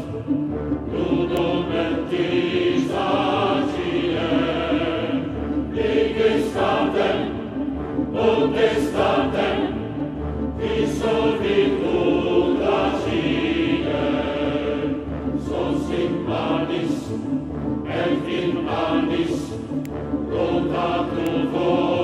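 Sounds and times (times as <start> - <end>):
choir singing sustained chords: 0.0 - 22.0.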